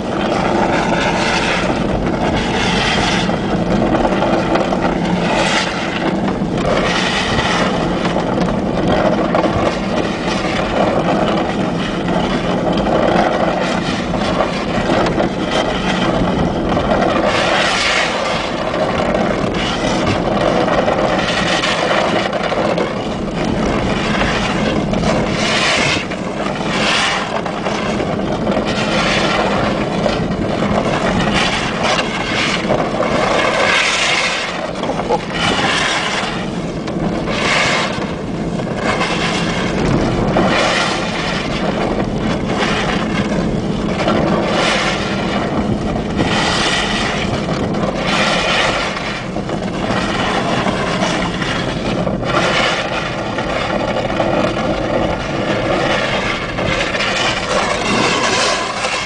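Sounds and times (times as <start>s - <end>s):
tyre and wind noise: 0.0s - 59.0s.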